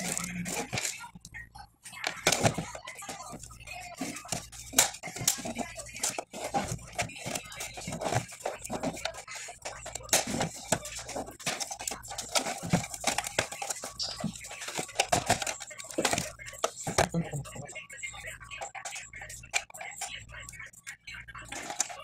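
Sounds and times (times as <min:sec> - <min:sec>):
plastic clicks and scrapes: 0:00.0 - 0:01.3, 0:02.0 - 0:22.0.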